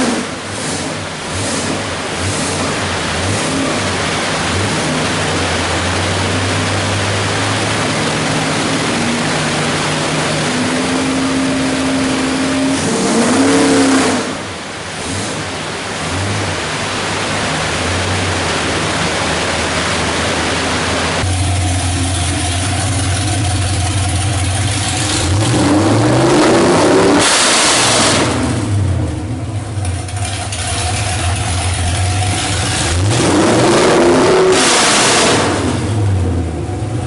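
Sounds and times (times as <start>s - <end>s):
v eight engine revving on dyno: 0.0s - 37.0s.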